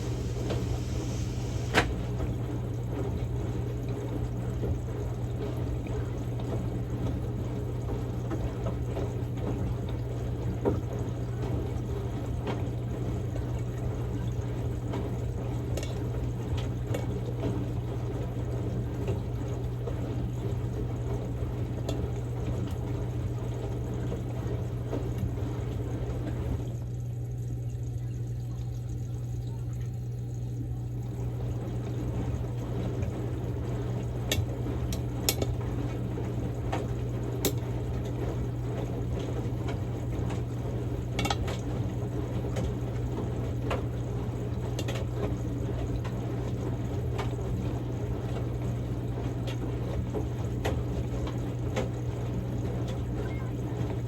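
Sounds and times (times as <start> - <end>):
washing machine low hum: 0.0 - 54.0
water pouring into washing machine: 0.0 - 54.0.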